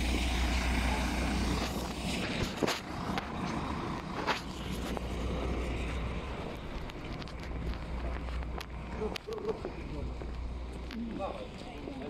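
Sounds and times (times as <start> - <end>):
diesel bus engine drone: 0.0 - 12.0.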